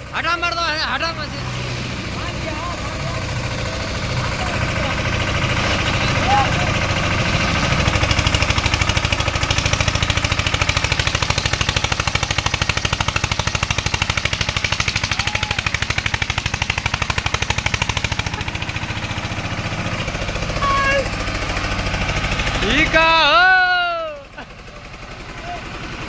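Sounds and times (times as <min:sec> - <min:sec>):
tractor diesel engine chugging: 0:00.0 - 0:26.0.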